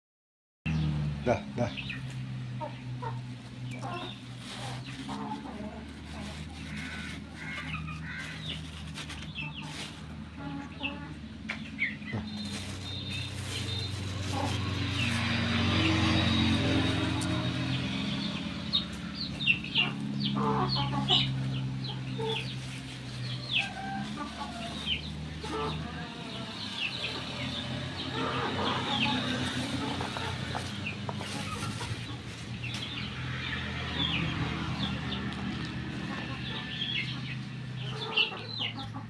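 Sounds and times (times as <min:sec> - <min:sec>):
chickens clucking: 0:00.7 - 0:39.0.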